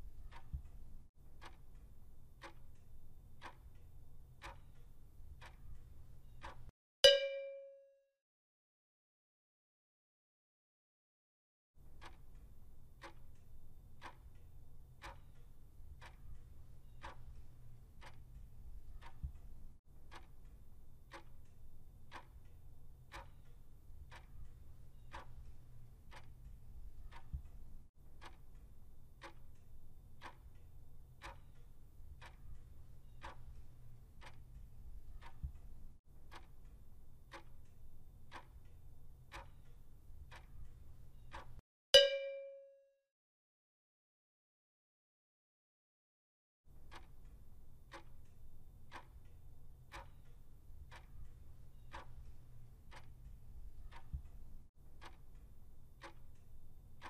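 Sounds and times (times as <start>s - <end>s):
clock ticking: 0.1s - 7.6s, 11.8s - 42.6s, 46.7s - 57.0s.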